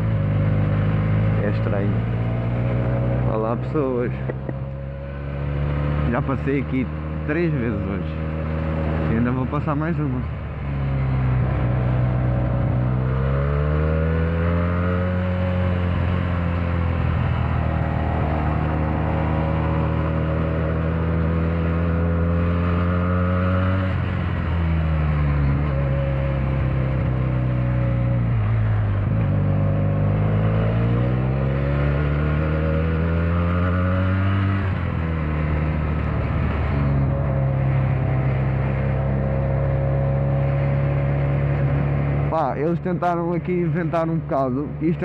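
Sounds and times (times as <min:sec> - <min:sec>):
motorcycle engine and exhaust: 0:00.0 - 0:45.0.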